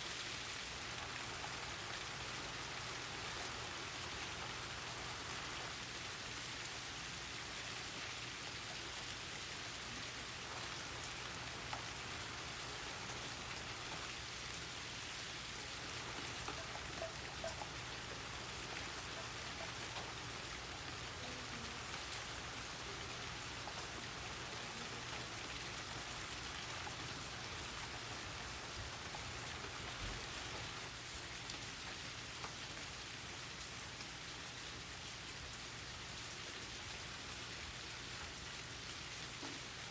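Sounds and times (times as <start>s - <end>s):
raindrops ticking on surfaces: 0.0s - 39.9s
steady rain falling: 0.0s - 39.9s.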